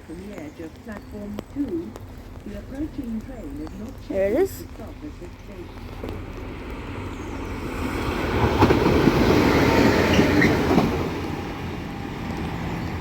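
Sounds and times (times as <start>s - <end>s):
train passing on rails: 0.0s - 13.0s.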